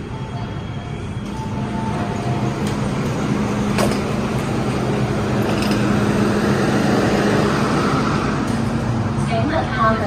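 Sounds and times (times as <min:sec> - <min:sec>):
train equipment humming: 0:00.0 - 0:10.0.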